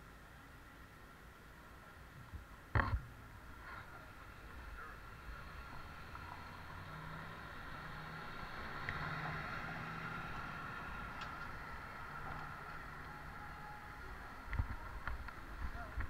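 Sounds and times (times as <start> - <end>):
pedicab road rumble and hiss: 0.0 - 16.0
car traffic passing: 2.8 - 16.0.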